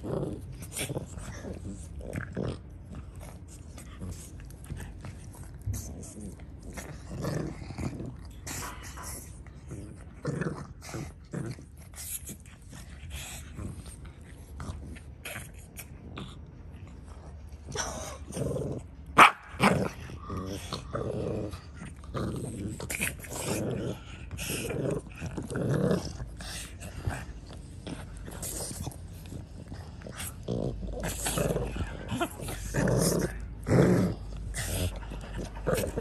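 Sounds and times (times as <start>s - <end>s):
puppies growling: 0.0s - 36.0s.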